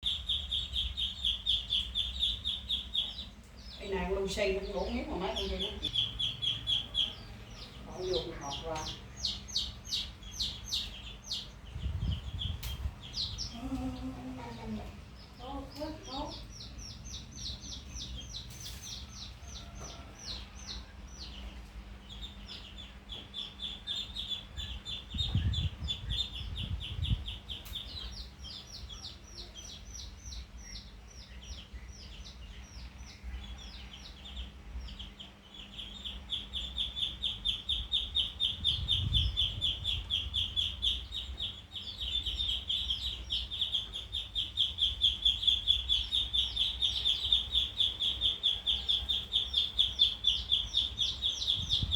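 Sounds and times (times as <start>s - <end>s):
duckling peeping: 0.0s - 51.9s.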